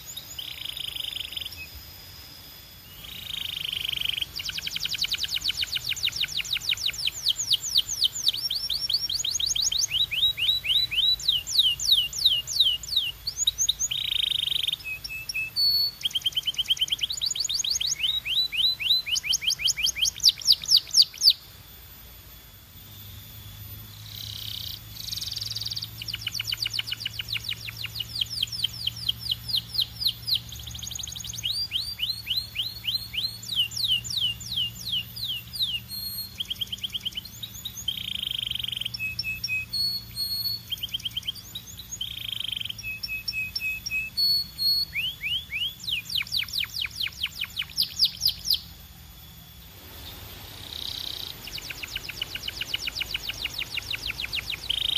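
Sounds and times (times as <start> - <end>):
canary singing trills: 0.0 - 21.6, 22.8 - 54.9.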